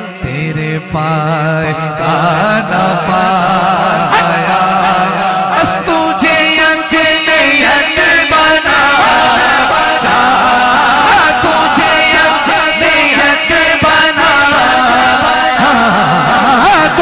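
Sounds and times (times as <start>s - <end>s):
man singing hymn into microphone: 0.0s - 17.0s.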